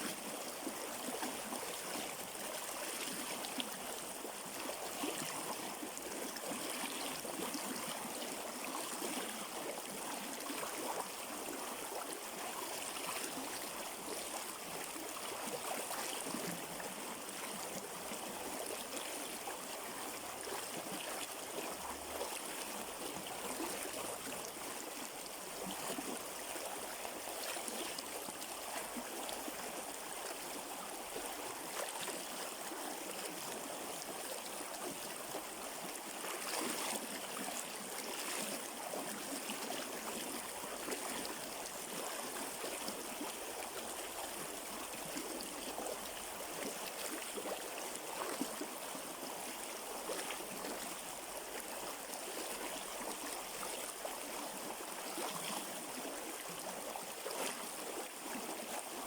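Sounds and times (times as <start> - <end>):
river water gurgling over stones: 0.0 - 59.0.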